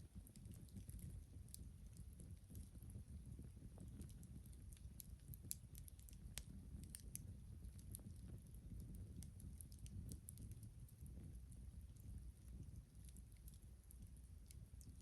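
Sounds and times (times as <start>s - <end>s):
campfire crackling and popping: 0.0s - 15.0s
faint low steady noise: 0.0s - 15.0s.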